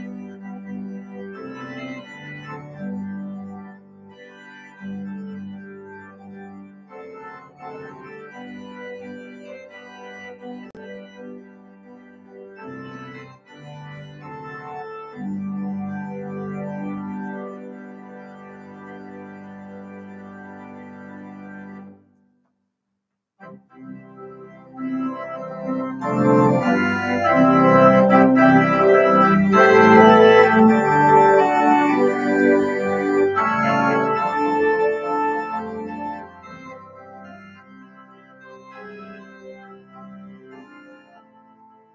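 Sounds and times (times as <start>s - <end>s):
church organ chords: 0.0s - 22.0s, 23.4s - 41.9s.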